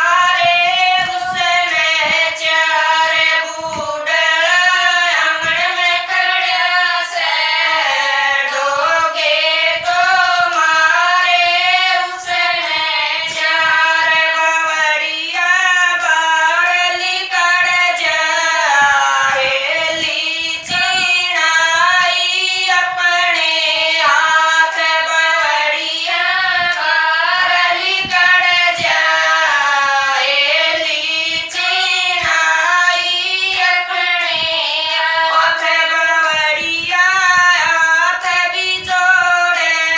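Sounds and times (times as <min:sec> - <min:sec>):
women singing together: 0:00.0 - 0:39.9.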